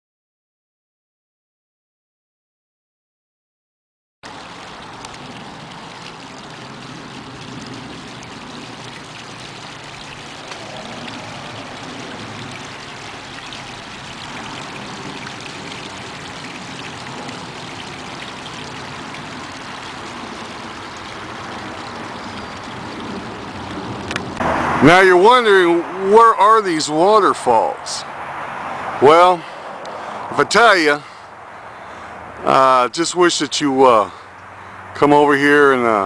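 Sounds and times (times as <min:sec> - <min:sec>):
waterfall rushing and splashing: 0:04.3 - 0:36.0.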